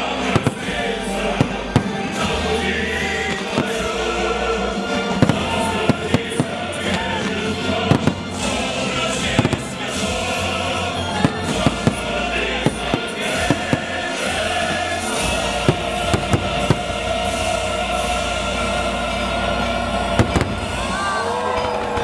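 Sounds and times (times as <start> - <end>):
fireworks bangs: 0.0 - 17.6, 20.1 - 22.0
loud music: 0.0 - 22.0.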